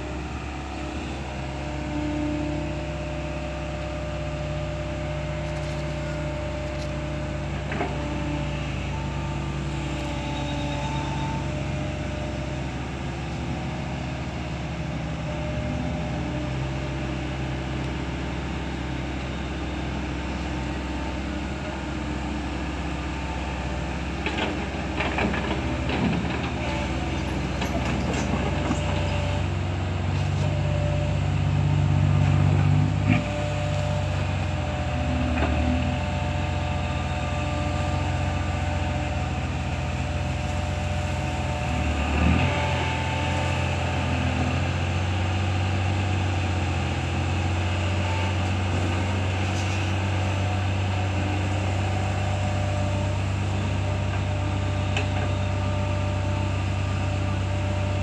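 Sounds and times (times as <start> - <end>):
excavator diesel engine running: 0.0 - 58.0
excavator clanks and rattles: 3.3 - 16.6, 19.2 - 58.0.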